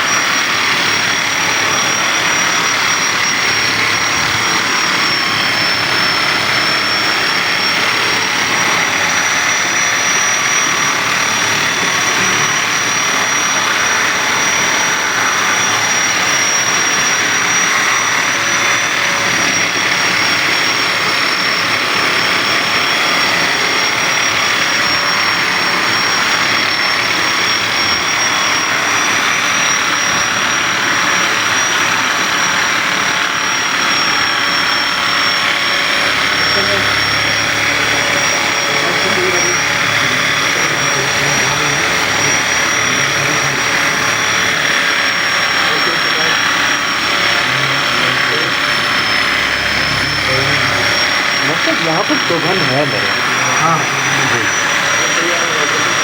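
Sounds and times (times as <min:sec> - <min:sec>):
machine whir with high whine: 0:00.0 - 0:56.0.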